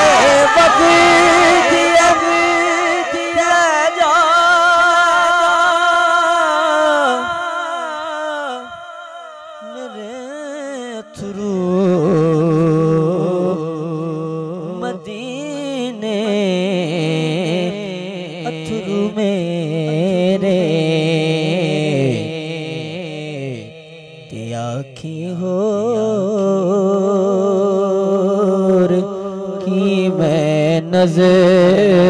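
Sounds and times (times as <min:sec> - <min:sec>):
man singing into microphone: 0:00.0 - 0:32.0.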